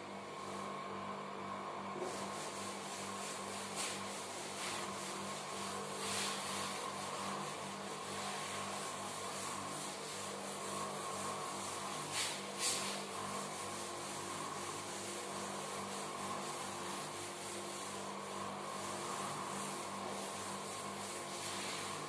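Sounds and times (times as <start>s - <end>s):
steady background hum: 0.0s - 22.0s
duster rubbing on chalkboard: 2.0s - 22.0s.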